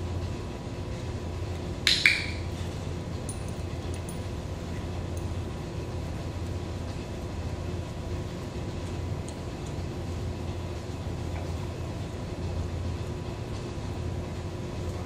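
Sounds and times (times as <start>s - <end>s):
low hum of machinery: 0.0s - 15.0s.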